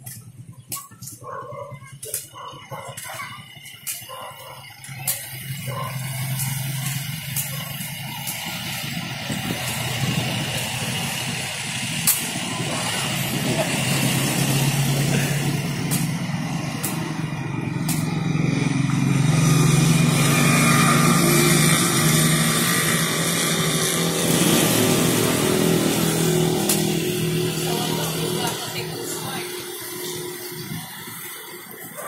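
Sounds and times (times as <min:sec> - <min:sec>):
motorcycle engines passing: 0:00.0 - 0:32.0.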